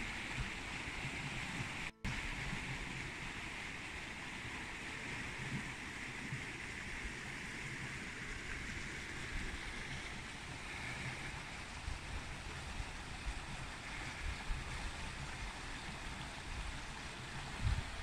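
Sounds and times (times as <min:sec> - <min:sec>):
stream running over gravel: 0:00.0 - 0:18.0
wind rumble on microphone: 0:00.0 - 0:18.0.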